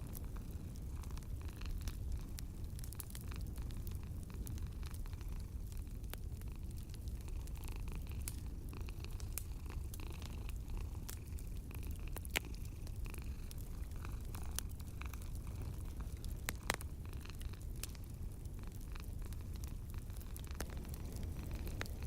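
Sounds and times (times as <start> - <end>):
cat purring: 0.0 - 22.0
wood fire crackling: 0.0 - 22.0.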